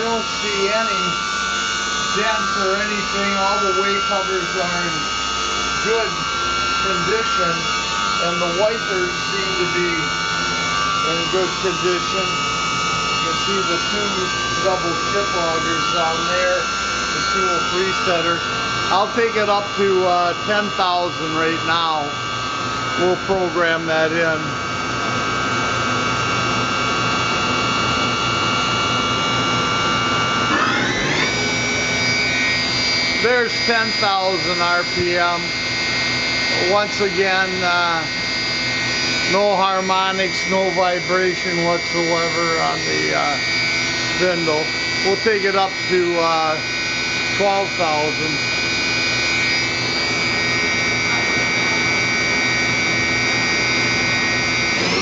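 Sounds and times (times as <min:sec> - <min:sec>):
machine spindle whine: 0:00.0 - 0:55.0.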